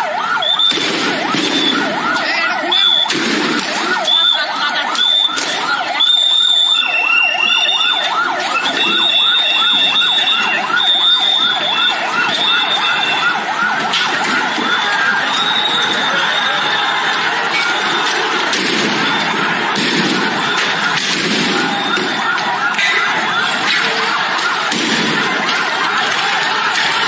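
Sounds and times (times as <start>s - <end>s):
police siren yelping: 0.0s - 27.0s.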